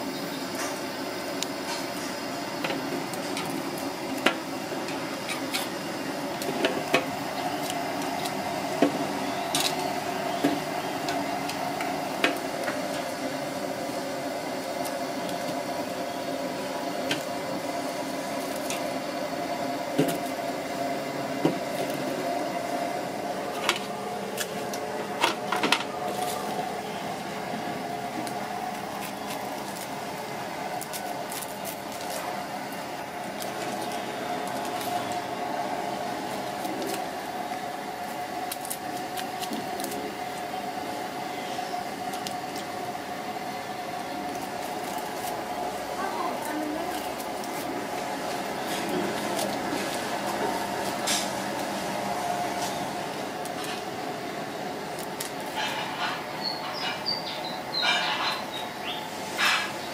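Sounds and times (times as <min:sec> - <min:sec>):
low hum and hiss: 0:00.0 - 0:59.9.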